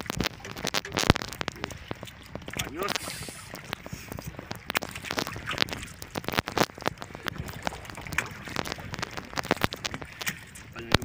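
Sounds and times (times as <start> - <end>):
fish tapping and splashing: 0.0 - 11.0.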